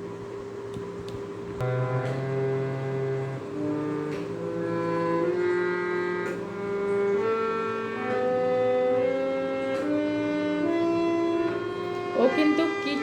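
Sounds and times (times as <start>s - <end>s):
harmonium chords: 1.4s - 13.0s.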